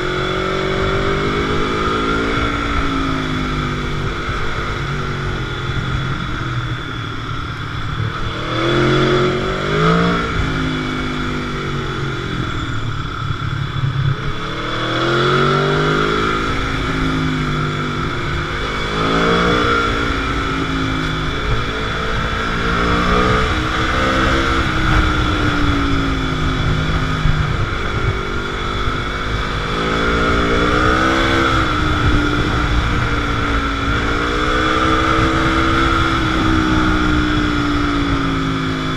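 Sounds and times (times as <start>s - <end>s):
motorcycle engine accelerating: 0.0s - 38.9s
wind noise: 0.0s - 38.9s.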